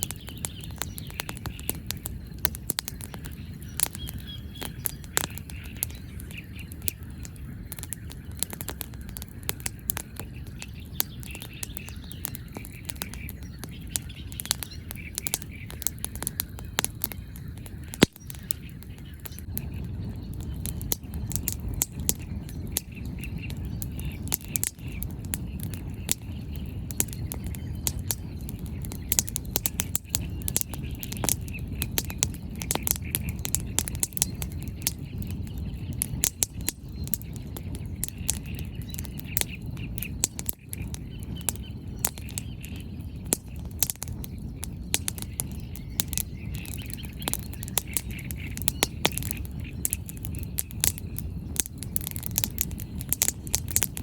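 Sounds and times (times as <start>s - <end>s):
birds chirping: 0.0s - 54.0s
campfire crackling and popping: 0.0s - 54.0s.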